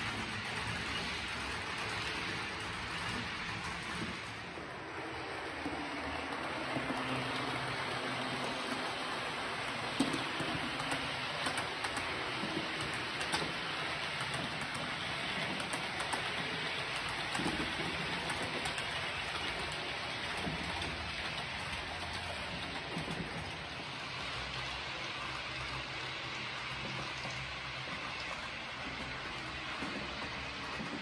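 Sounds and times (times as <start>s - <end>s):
model train wheels rattling on rail: 0.0s - 31.0s.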